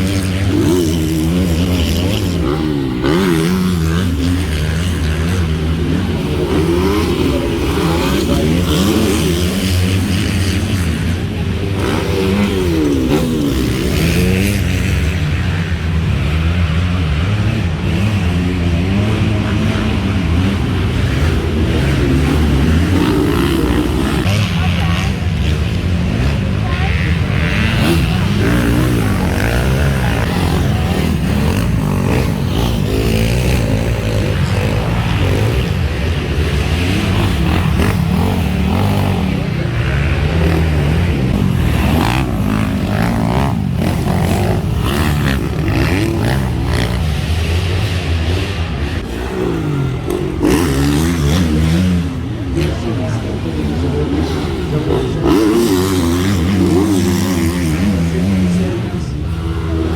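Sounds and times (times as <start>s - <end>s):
motocross bikes revving: 0.0s - 59.9s.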